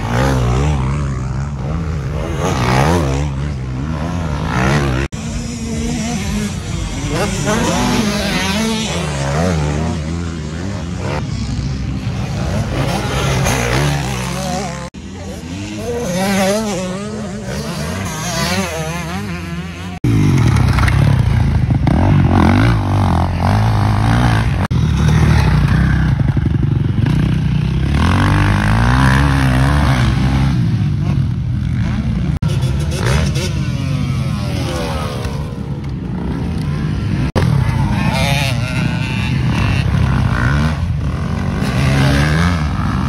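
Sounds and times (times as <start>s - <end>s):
motorcycle engines revving: 0.0s - 43.0s.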